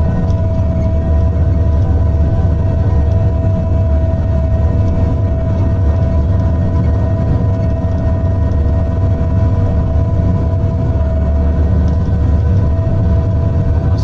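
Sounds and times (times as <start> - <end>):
diesel engine rumbling with whine: 0.0 - 14.0.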